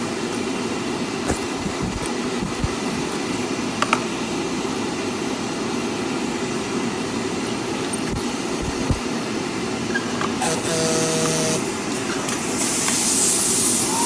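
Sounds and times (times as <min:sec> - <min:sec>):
machine humming: 0:00.0 - 0:09.8, 0:10.4 - 0:12.1.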